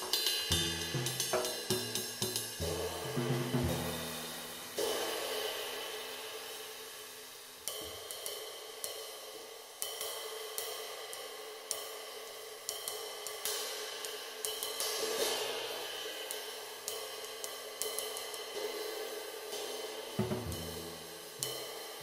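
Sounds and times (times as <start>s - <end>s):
ride cymbal struck with stick: 0.0s - 22.0s.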